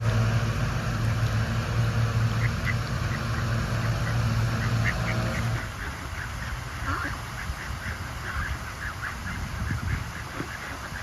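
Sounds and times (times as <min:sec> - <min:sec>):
low hum: 0:00.0 - 0:10.5
ducks quacking: 0:02.1 - 0:11.0.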